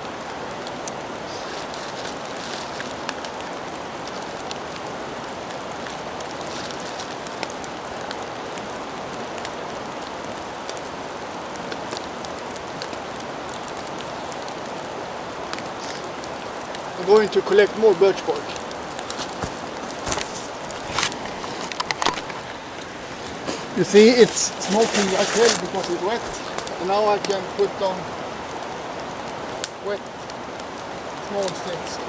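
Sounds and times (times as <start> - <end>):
heavy rain falling: 0.0 - 32.0
raindrops ticking on surfaces: 0.0 - 32.0.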